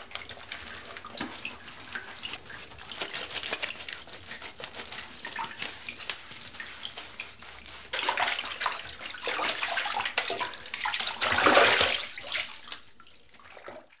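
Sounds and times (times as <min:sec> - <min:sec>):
water splashing in a bathtub: 0:00.0 - 0:14.0.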